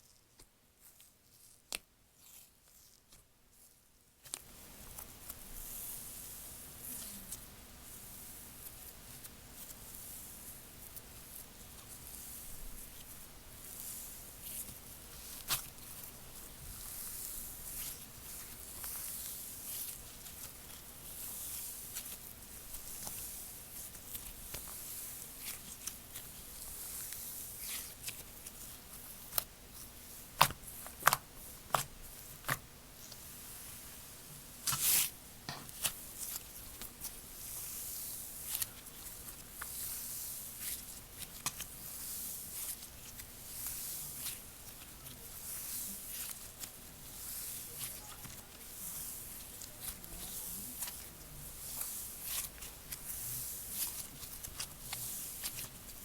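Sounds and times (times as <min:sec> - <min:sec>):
hands squishing slime: 0:04.3 - 0:33.9, 0:34.6 - 0:56.0
slime squelch: 0:04.3 - 0:56.0.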